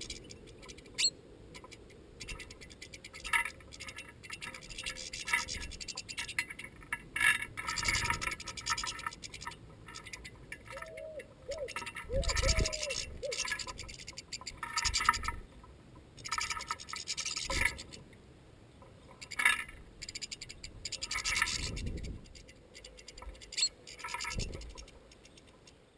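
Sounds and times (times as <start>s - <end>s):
birds pecking seeds at feeder: 0.0s - 18.2s, 18.8s - 25.8s.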